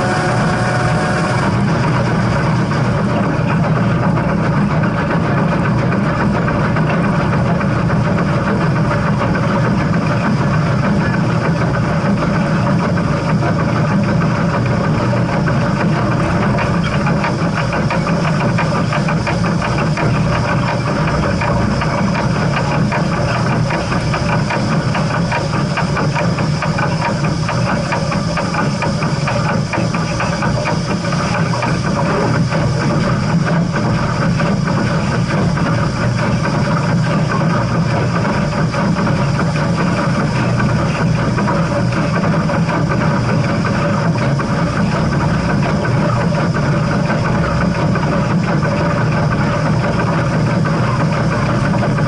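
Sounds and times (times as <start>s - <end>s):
steam locomotive rumble and hiss: 0.0s - 52.0s.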